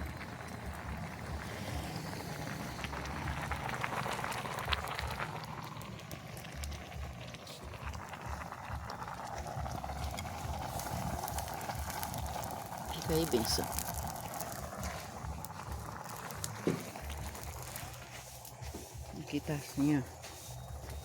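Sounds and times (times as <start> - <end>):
fire crackling: 0.0 - 21.0
low rumbling: 0.0 - 21.0
pot bubbling: 0.0 - 21.0.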